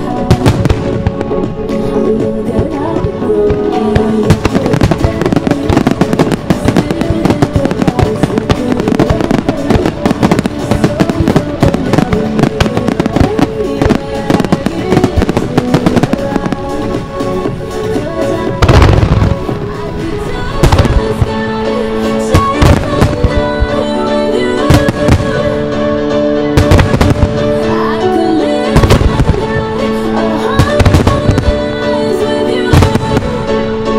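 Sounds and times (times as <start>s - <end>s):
fireworks bursting and crackling: 0.0s - 33.9s
loud music: 0.0s - 33.9s.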